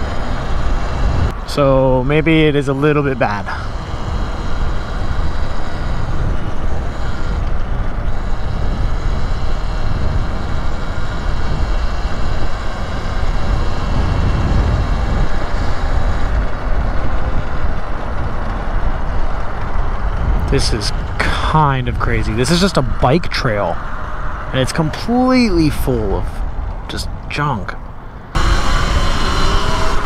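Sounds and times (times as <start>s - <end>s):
high electric motor whine: 0.0s - 27.1s, 28.1s - 30.0s
wind rushing over microphone: 0.0s - 30.0s.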